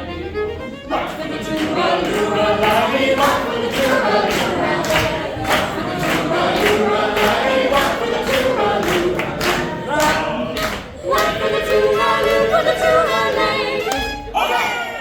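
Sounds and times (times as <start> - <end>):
group singing in harmony: 0.9 - 14.3
steady beat: 1.1 - 13.5.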